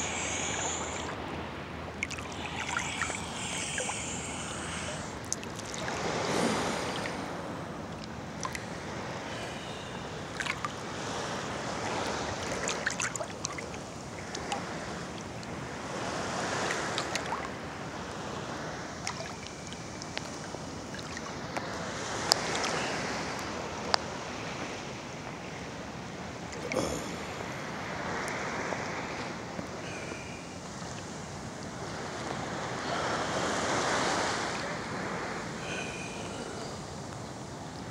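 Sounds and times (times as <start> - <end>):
small waves lapping and sloshing: 0.0 - 37.9.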